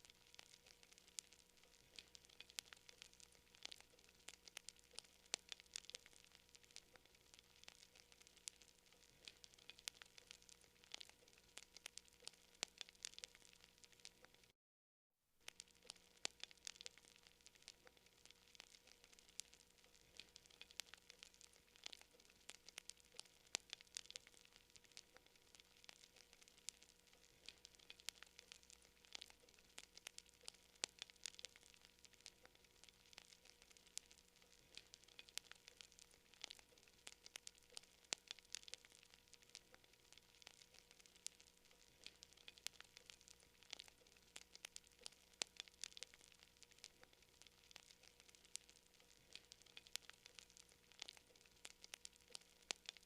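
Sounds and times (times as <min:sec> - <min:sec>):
campfire crackling: 0:00.0 - 0:14.5, 0:15.4 - 0:53.0.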